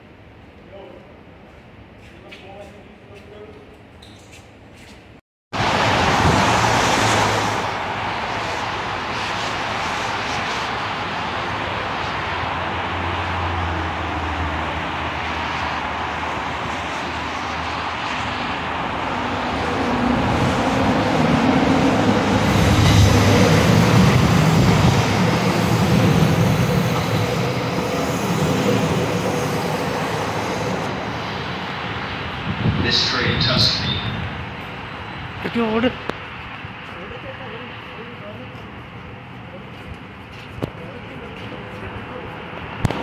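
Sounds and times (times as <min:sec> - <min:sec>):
light-rail train rumbling: 0:00.0 - 0:43.0
road traffic noise: 0:00.0 - 0:43.0.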